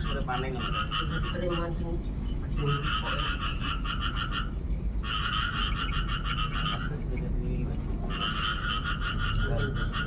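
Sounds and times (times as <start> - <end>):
frog calling in pulsed trills: 0.0 - 10.0.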